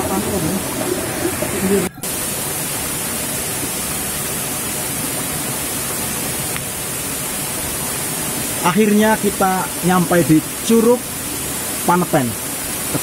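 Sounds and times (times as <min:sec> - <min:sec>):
rushing stream and waterfall: 0:00.0 - 0:13.0.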